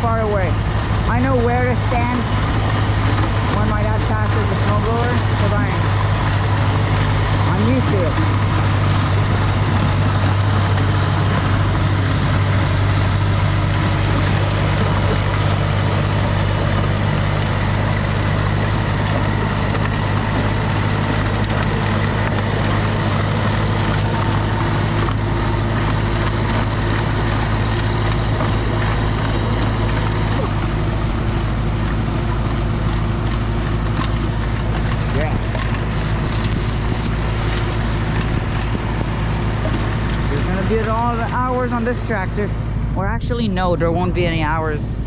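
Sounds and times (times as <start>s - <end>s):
snowblower rushing: 0.0s - 45.0s
tractor engine drone: 0.0s - 45.0s.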